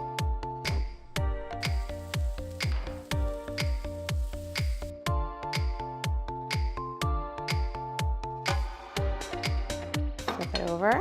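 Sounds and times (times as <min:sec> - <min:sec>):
electronic music: 0:00.0 - 0:11.0
steady kick drum beat: 0:01.5 - 0:11.0.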